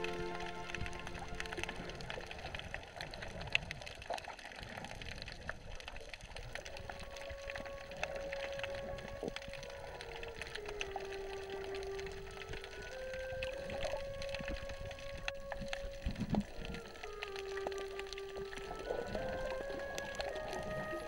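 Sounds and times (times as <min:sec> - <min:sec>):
faint crackling clicks: 0:00.0 - 0:21.0
underwater water noise: 0:00.0 - 0:21.0.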